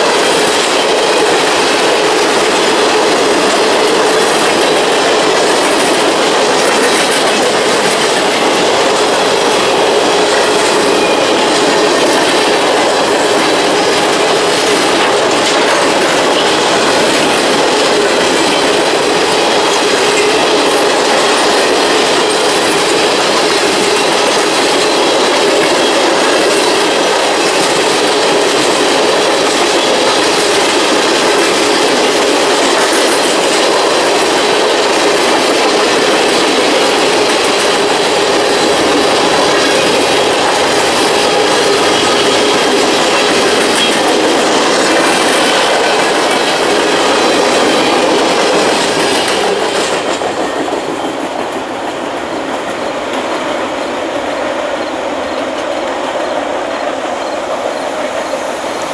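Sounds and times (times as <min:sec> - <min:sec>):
train wheels clacking over rail: 0:00.0 - 0:58.9.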